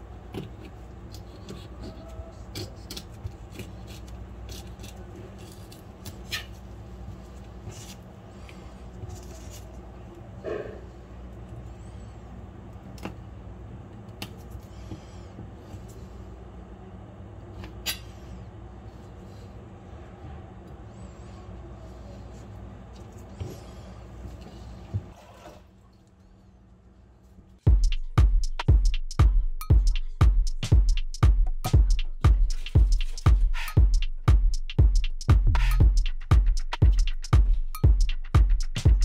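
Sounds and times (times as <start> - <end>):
low room hum: 0.0 - 39.0.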